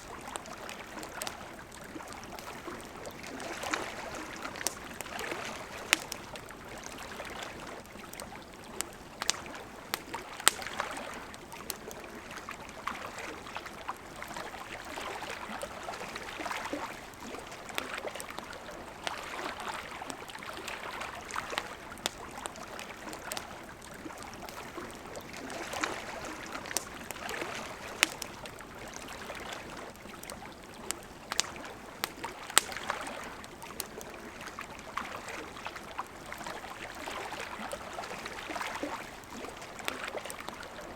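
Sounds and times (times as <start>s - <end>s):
campfire crackling and popping: 0.0s - 40.9s
river flowing: 0.0s - 40.9s.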